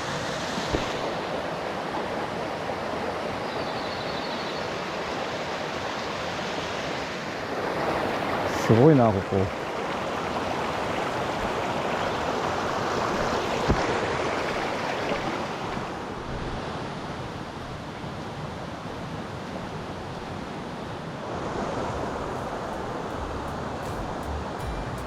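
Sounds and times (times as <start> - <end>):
mountain stream rushing: 0.0 - 25.0.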